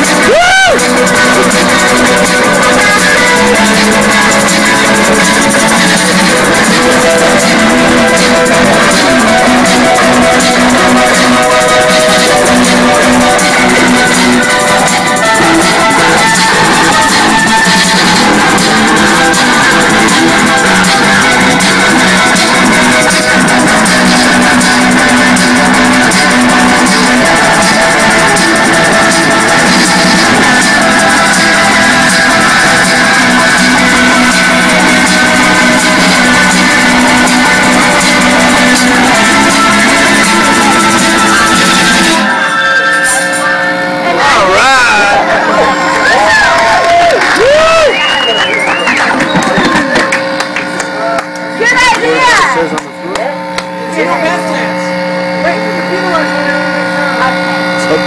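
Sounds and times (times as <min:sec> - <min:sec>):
drums: 0:00.0 - 0:42.5, 0:44.1 - 0:50.8
electric guitar rock music: 0:00.0 - 0:58.0.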